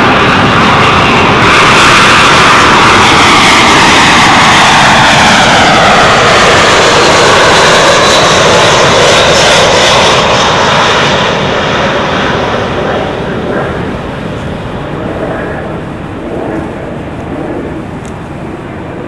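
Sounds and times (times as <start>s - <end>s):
jet airliner roar overhead: 0.0s - 19.0s
jet engine whines sliding down: 0.0s - 19.0s.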